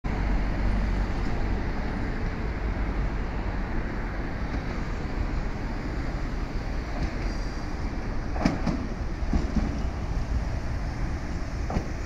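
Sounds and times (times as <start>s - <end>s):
distant tram running: 0.1s - 12.0s
wind rumbling on microphone: 0.1s - 12.0s.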